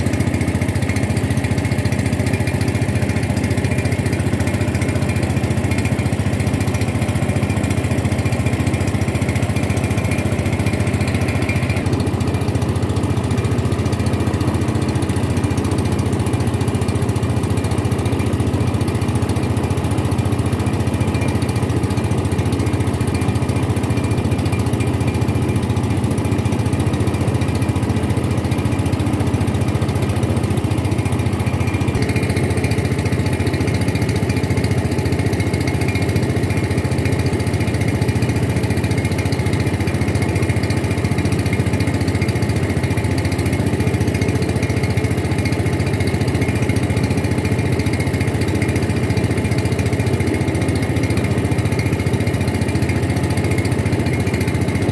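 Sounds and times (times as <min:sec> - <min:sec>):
boat engine running: 0:00.0 - 0:54.9.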